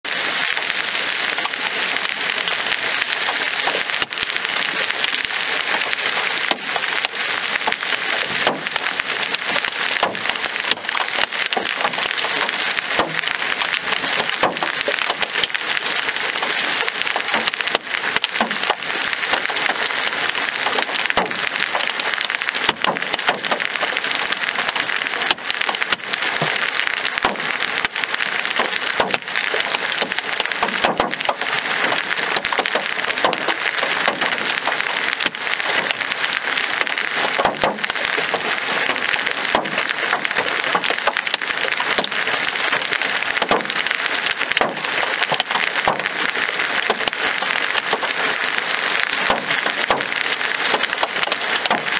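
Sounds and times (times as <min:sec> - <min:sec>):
heavy rain: 0:00.0 - 0:51.9
hailstones cracking on hard surfaces: 0:00.1 - 0:51.9.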